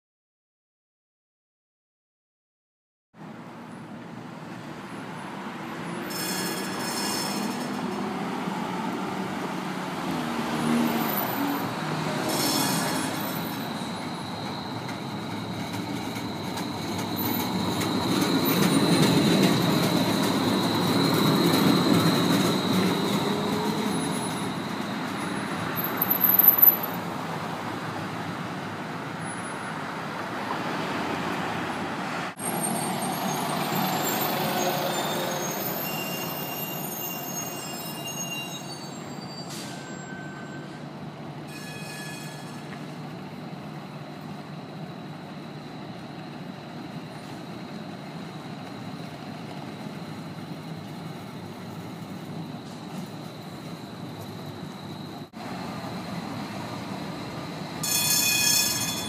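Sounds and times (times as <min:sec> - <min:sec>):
tram rumbling on rails: 0:03.2 - 0:59.0.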